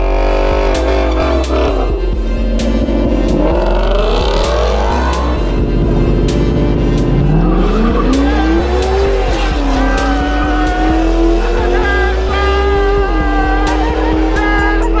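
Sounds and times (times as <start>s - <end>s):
dirt bike engine accelerating: 0.0s - 15.0s.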